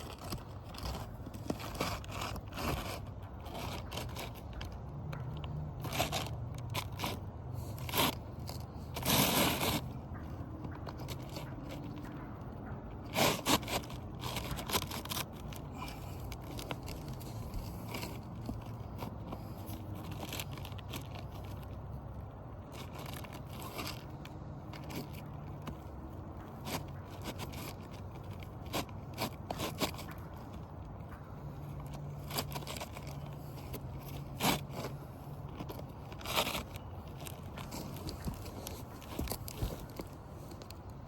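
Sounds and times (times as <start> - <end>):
roof shingles scraping and crackling: 0.0 - 5.2, 5.8 - 12.2, 13.0 - 41.0.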